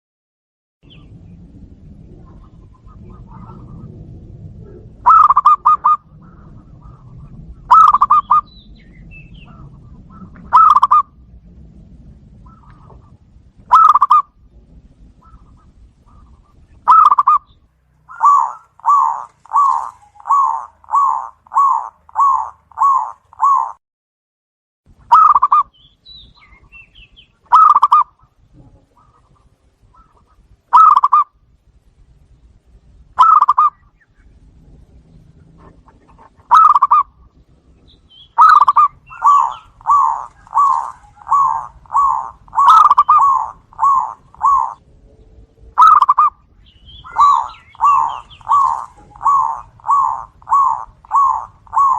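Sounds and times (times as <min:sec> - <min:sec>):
doves cooing: 0:02.0 - 0:11.4, 0:12.0 - 0:23.8, 0:25.1 - 0:25.7, 0:26.3 - 0:31.4, 0:33.2 - 0:51.9.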